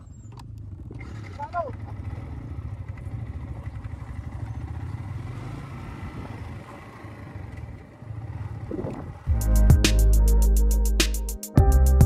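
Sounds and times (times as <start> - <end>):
motorcycle engine running low speed: 0.0 - 9.8.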